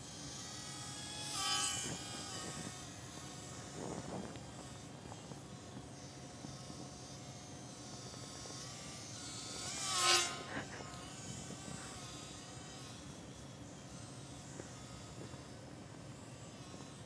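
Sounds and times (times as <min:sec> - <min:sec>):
rc plane electric motor buzzing: 0:00.0 - 0:17.0.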